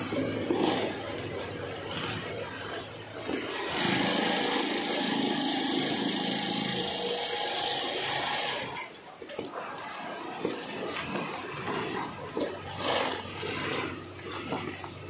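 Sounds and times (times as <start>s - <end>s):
industrial sewing machine running: 0.0s - 9.0s, 9.7s - 14.5s.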